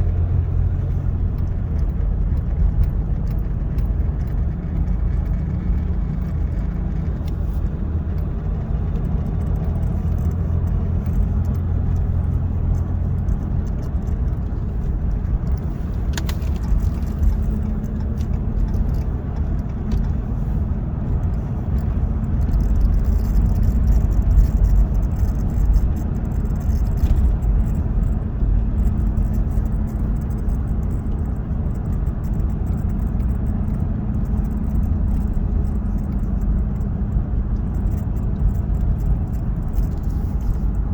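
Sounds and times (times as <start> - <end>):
engine and road rumble: 0.0 - 40.9.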